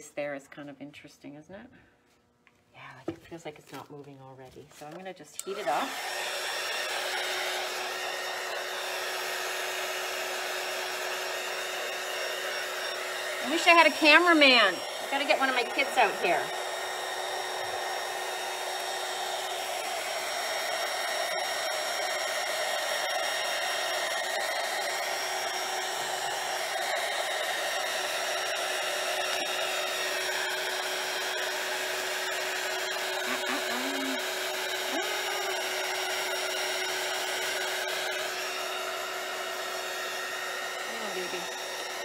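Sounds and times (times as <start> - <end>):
heat gun blowing air: 5.4 - 42.0.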